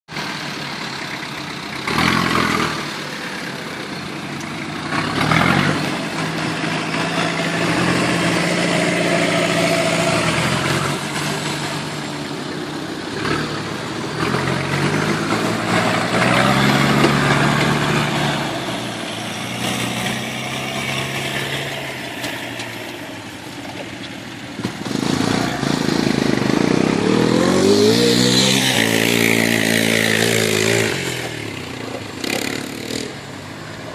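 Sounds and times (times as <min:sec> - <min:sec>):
engine revving: 0:01.7 - 0:23.3, 0:24.5 - 0:33.9.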